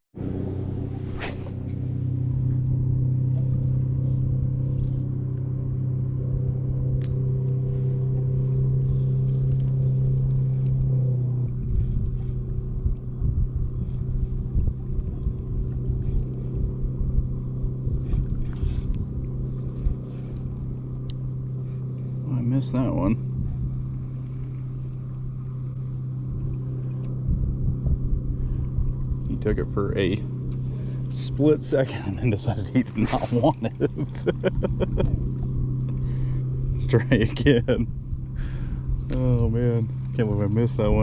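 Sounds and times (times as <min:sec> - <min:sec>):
engine humming steadily: 0:00.2 - 0:41.0
wind buffeting microphone: 0:00.2 - 0:41.0.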